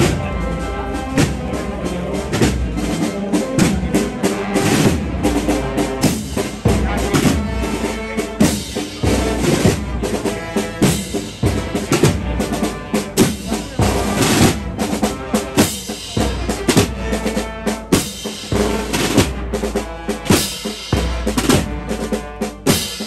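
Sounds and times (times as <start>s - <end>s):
drums beating: 0.0s - 23.0s
wind instruments playing melody: 0.0s - 23.0s.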